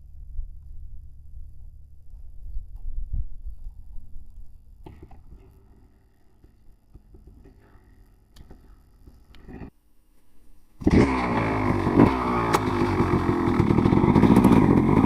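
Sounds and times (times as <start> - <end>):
dirt bike engine running: 0.0 - 9.7, 10.8 - 15.0.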